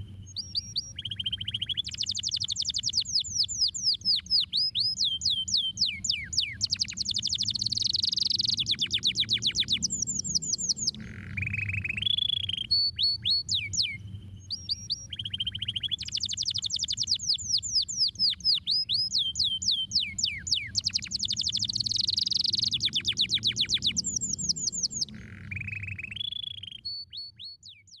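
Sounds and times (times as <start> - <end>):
low background hum: 0.0 - 27.1
canary singing trills: 0.0 - 28.0.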